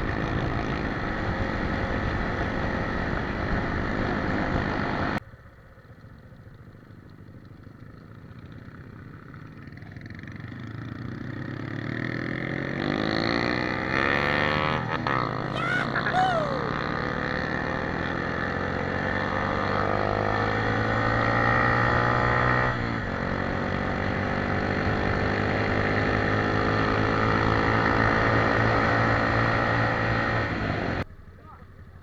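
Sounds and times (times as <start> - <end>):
motorcycle engine riding: 0.0 - 32.0.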